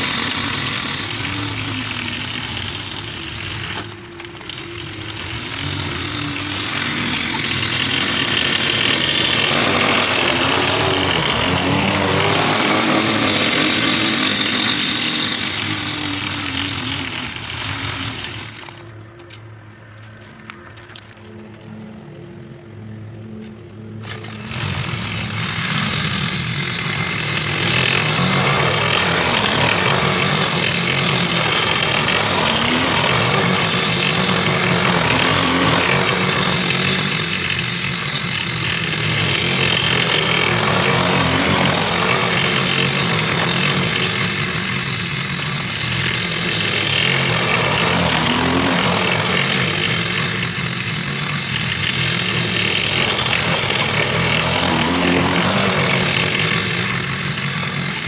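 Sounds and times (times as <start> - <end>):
lawn mower engine running: 0.0 - 22.2, 23.4 - 58.0.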